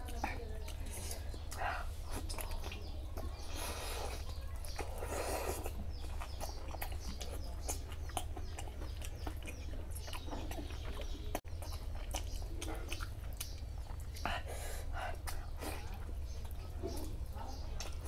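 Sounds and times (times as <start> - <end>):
fingers squelching rice and curry: 0.0 - 18.0
wet chewing and mouth clicks: 0.0 - 18.0.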